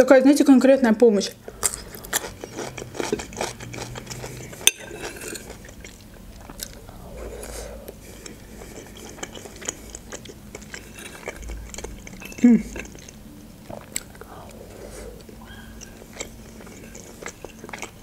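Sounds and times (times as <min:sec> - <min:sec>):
person chewing with wet clicks: 0:01.4 - 0:18.0.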